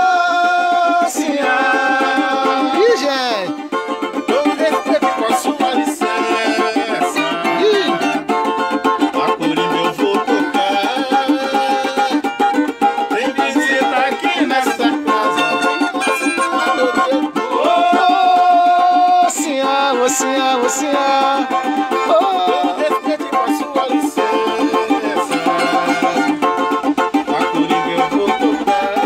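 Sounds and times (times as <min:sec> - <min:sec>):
man singing: 0:00.0 - 0:29.0
strummed banjo and cavaquinho: 0:00.0 - 0:29.0.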